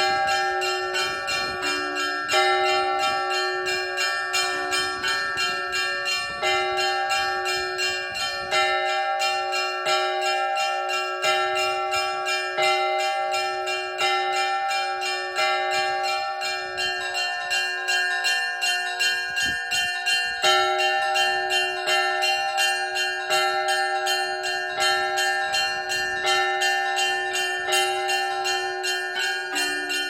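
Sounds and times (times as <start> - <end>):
large bells ringing: 0.0 - 30.0
small bells struck rapidly: 0.0 - 30.0.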